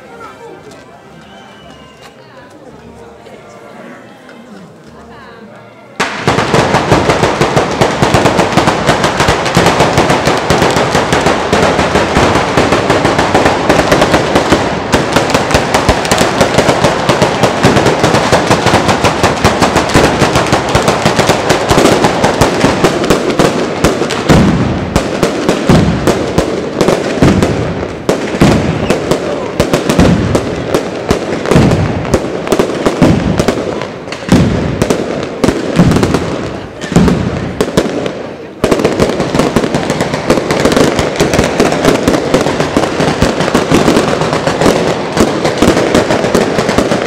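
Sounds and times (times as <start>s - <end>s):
firecrackers rattling: 6.0s - 47.0s
heavy firework bangs: 6.0s - 47.0s.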